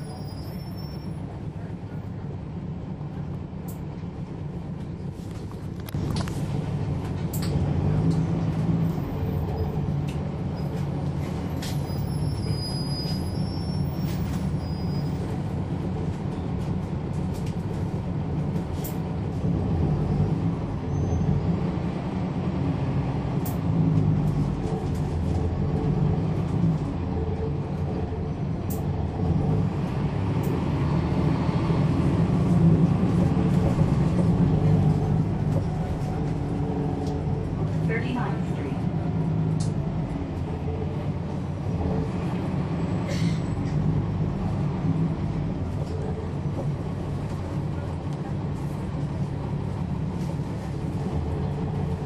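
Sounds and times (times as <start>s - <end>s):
bus diesel engine drone: 0.0s - 52.0s.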